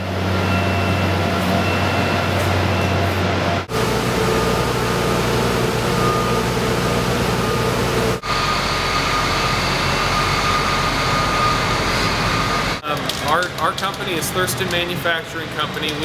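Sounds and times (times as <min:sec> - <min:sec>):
machinery hum with whine: 0:00.0 - 0:16.0.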